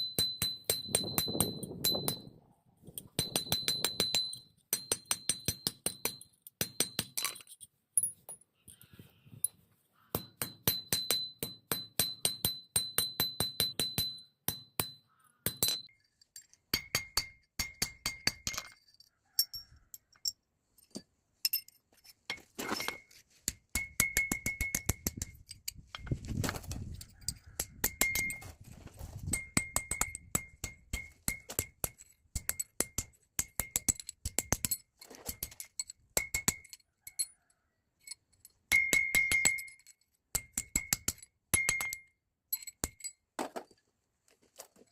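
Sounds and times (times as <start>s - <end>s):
metal taps and clinks ringing: 0.0s - 8.8s, 9.4s - 26.1s, 27.0s - 28.5s, 29.3s - 43.8s.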